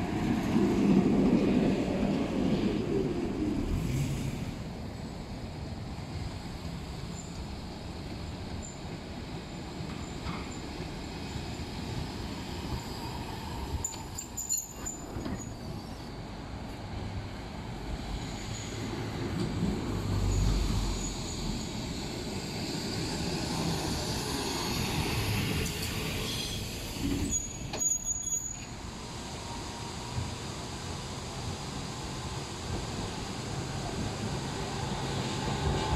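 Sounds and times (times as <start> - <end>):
street traffic: 0.0 - 35.9
tram rumbling along rails: 0.0 - 35.9.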